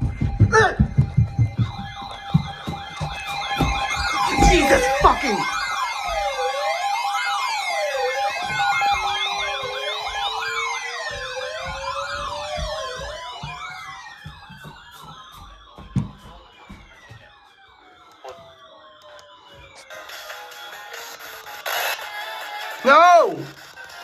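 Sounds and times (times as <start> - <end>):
emergency vehicle sirens wailing: 0.0 - 24.0.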